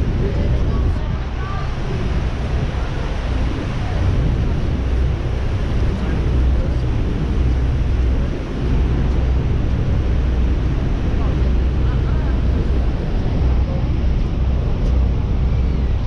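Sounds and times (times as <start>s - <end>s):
wind: 0.0s - 16.0s
wind buffeting microphone: 0.0s - 16.0s.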